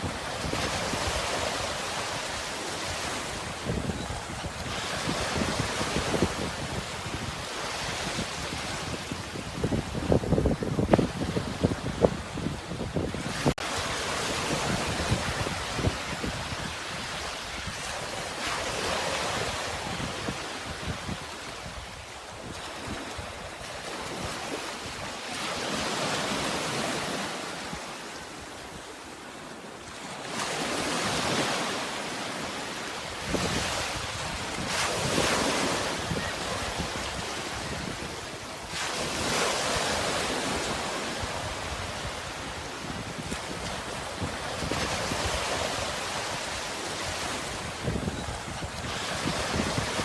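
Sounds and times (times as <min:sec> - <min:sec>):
wind rumble on microphone: 0:00.0 - 0:25.1, 0:33.1 - 0:50.0.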